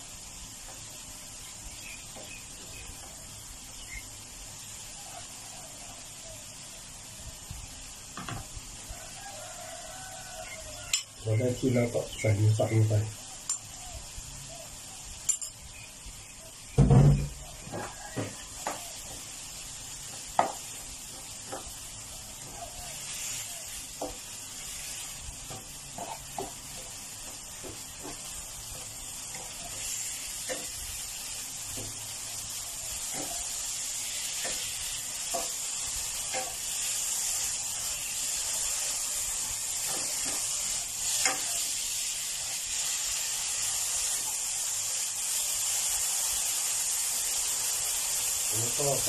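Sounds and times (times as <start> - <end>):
meat sizzling in a pan: 0.0 - 49.0.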